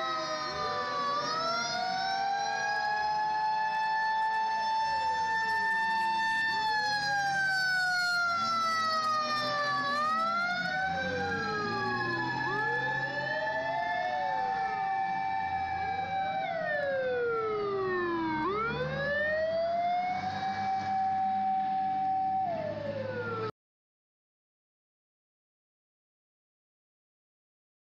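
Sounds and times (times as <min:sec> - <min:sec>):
fire engine sirens wailing: 0:00.0 - 0:23.6.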